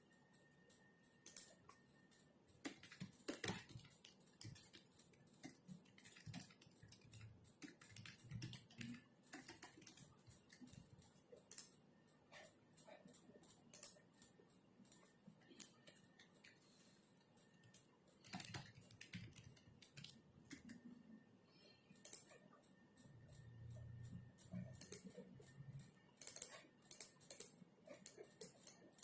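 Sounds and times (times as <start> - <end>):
faint keyboard typing: 0.0 - 29.0.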